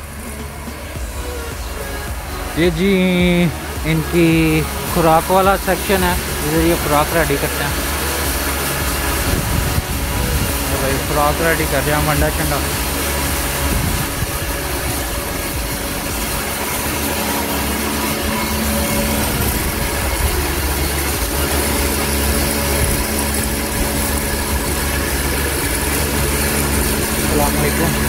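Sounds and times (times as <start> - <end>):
feed grinding machine running: 0.0 - 28.0.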